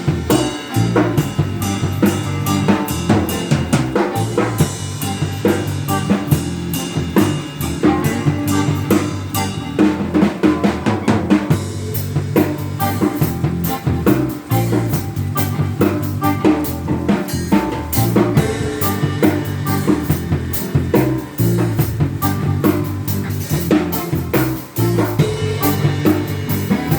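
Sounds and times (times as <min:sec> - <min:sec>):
bass line: 0:00.0 - 0:26.9
drum kit beat: 0:00.0 - 0:26.9.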